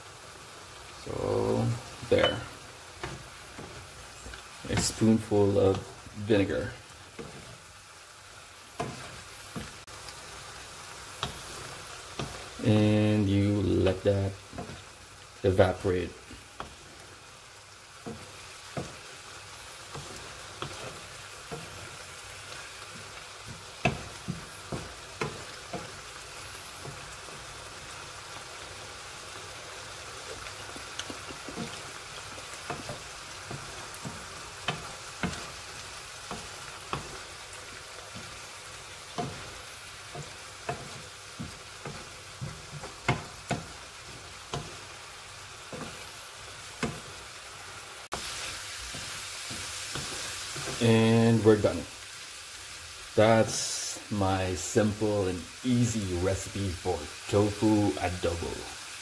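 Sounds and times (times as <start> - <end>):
food sizzling in a frying pan: 0.0 - 59.0
wooden spatula scraping a pan: 1.1 - 7.8, 8.6 - 17.3, 18.0 - 47.4, 48.1 - 50.9.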